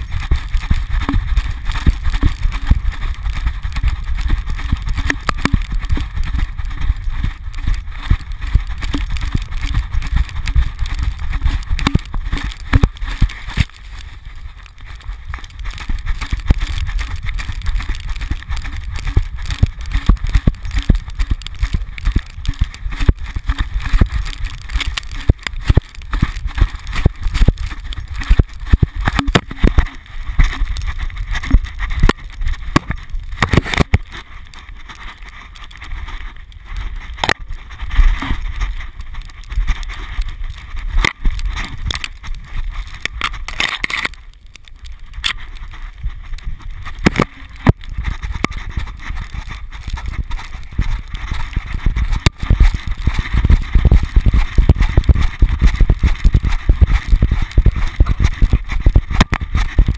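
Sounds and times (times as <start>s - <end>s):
rustling in snow: 0.0s - 59.9s.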